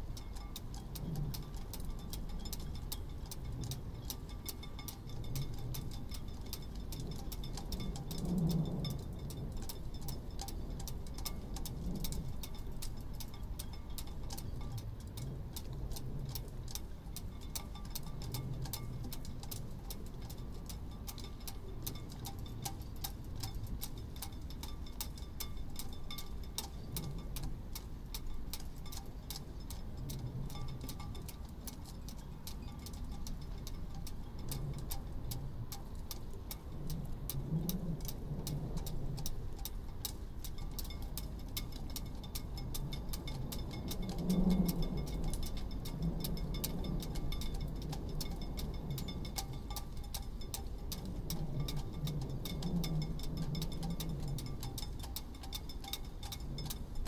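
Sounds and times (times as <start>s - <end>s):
low wind rumble: 0.0s - 57.0s.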